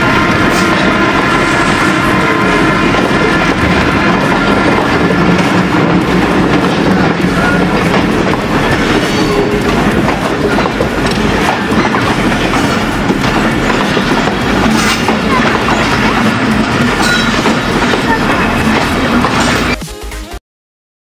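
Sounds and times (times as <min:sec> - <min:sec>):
train wheels clattering on rails: 0:00.0 - 0:19.8.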